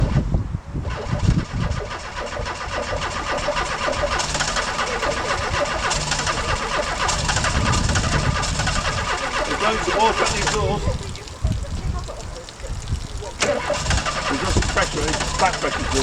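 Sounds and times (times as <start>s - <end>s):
van engine cranking and running: 0.0s - 16.0s.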